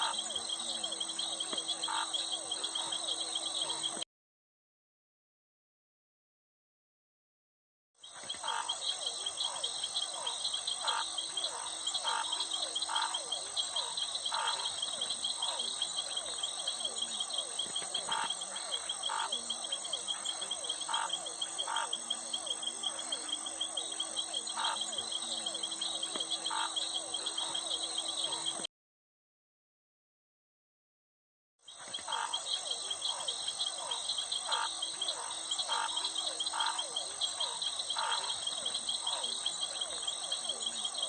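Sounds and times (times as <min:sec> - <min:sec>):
frog calls: 0:00.0 - 0:04.0, 0:08.0 - 0:28.7, 0:31.7 - 0:41.0
insect trilling: 0:00.0 - 0:04.0, 0:08.3 - 0:28.6, 0:31.8 - 0:41.0.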